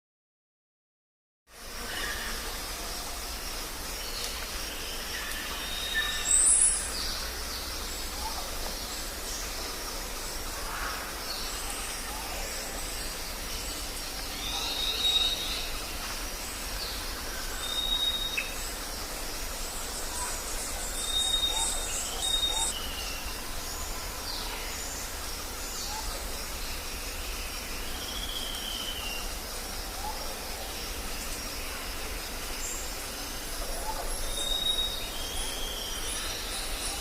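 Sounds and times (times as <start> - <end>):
steady background hiss: 1.5 - 37.0.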